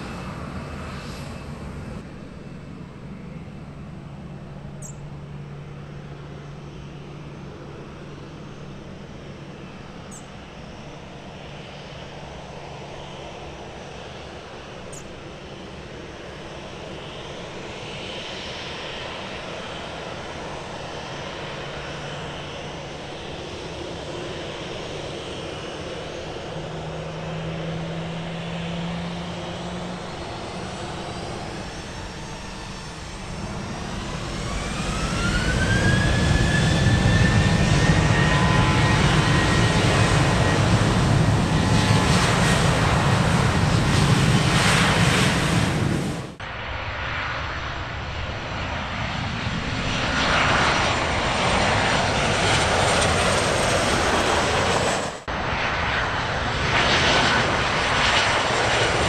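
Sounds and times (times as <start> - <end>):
jet engines spooling up: 0.0 - 59.0.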